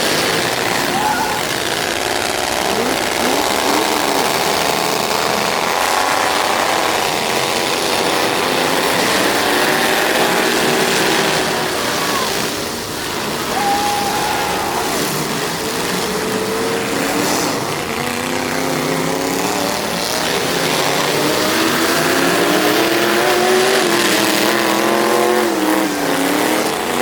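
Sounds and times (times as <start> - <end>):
steady noisy rumble: 0.0 - 26.0
truck engines revving: 0.0 - 27.0.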